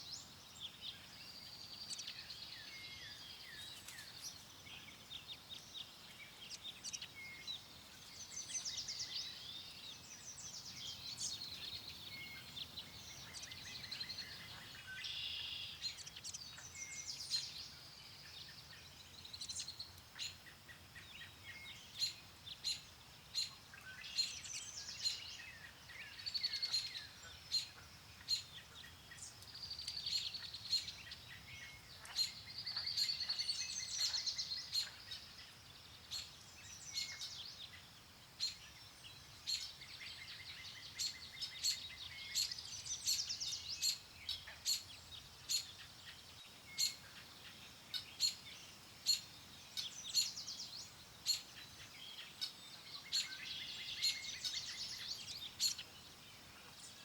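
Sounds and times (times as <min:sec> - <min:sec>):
faint low wind: 0:00.0 - 0:57.0
songbirds chirping and singing: 0:00.0 - 0:57.0.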